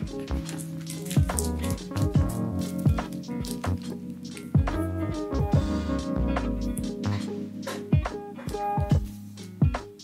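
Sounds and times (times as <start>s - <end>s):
lo-fi chillhop music: 0.0s - 10.0s.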